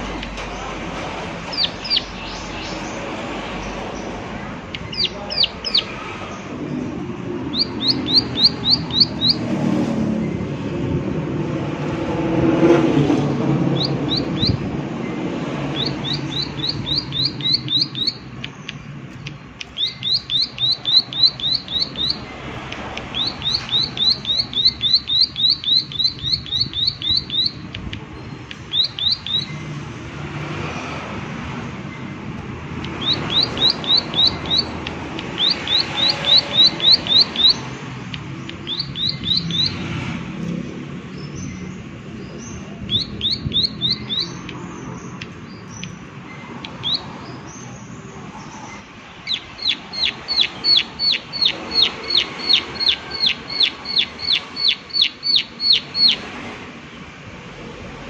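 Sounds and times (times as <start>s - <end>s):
bird ticking call: 1.3s - 9.6s, 13.6s - 30.0s, 31.9s - 39.9s, 40.5s - 56.5s
soft bird chirps: 1.4s - 9.6s, 13.7s - 30.0s, 31.8s - 57.0s.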